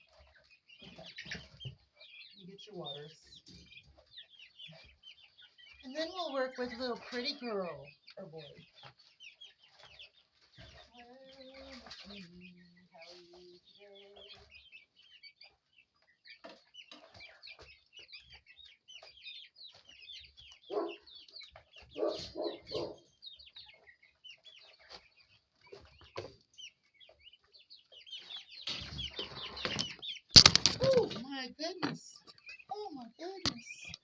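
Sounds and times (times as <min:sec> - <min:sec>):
chicks peeping: 0:00.0 - 0:34.0
hens clucking: 0:00.0 - 0:34.0.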